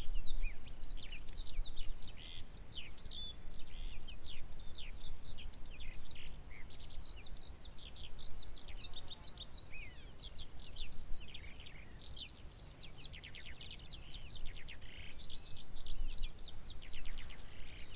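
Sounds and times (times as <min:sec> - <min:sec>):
songbird twittering: 0:00.0 - 0:17.9.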